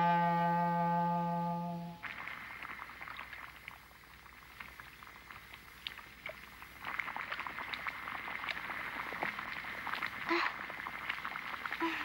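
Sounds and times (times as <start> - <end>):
faint hiss: 0.0 - 12.0
fire crackling and popping: 2.0 - 12.0.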